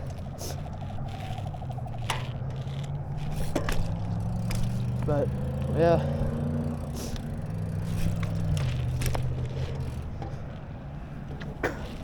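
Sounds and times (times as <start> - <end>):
bike clicks and rattles: 0.0 - 12.0
wind and tyre rumble: 0.0 - 12.0.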